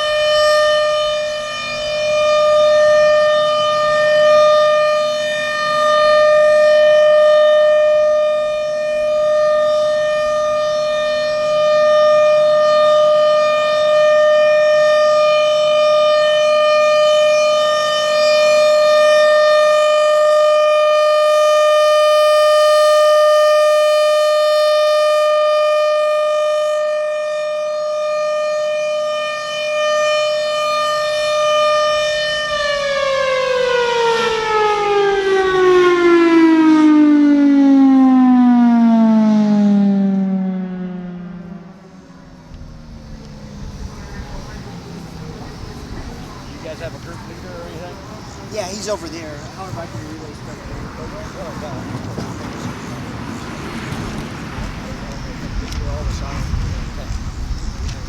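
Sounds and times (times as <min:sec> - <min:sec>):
siren winding down: 0:00.0 - 0:58.0
warning siren steady tone: 0:00.0 - 0:58.0.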